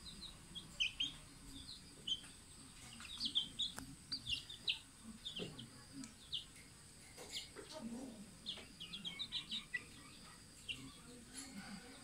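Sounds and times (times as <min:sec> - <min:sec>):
young birds peeping: 0:00.0 - 0:12.0.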